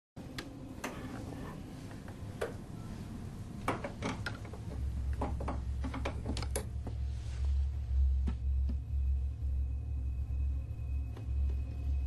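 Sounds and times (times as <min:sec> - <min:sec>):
low steady hum: 0:00.2 - 0:12.0.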